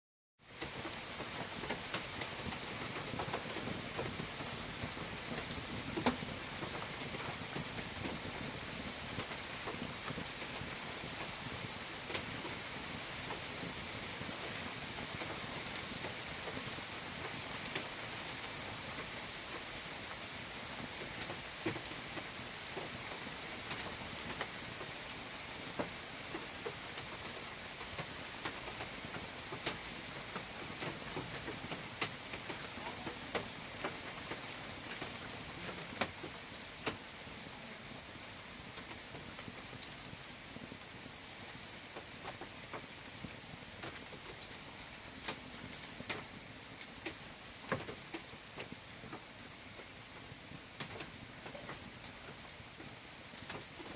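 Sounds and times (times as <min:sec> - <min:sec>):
fire crackling in a fireplace: 0:00.4 - 0:53.9.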